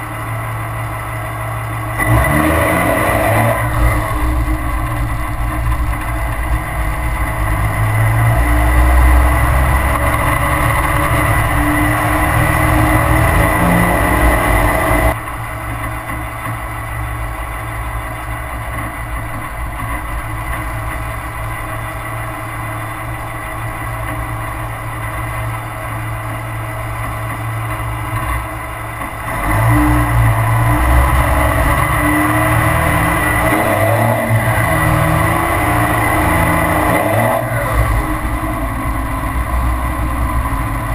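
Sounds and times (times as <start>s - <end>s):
diesel truck engine accelerating: 0.0s - 40.9s.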